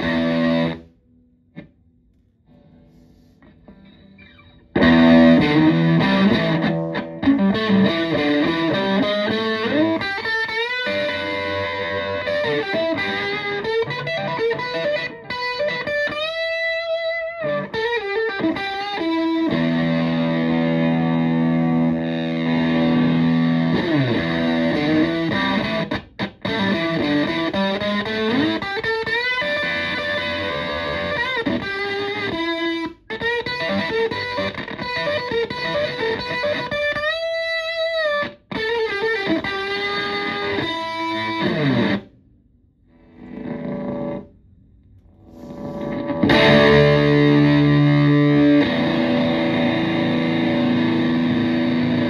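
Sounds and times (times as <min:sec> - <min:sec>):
fuzz-distorted electric guitar: 0:00.0 - 0:42.2, 0:42.8 - 0:52.0.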